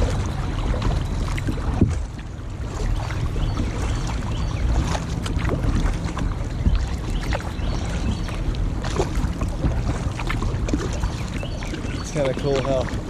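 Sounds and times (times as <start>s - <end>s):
kayak paddle splashing in water: 0.0s - 13.0s
wind rumble on microphone: 0.0s - 13.0s.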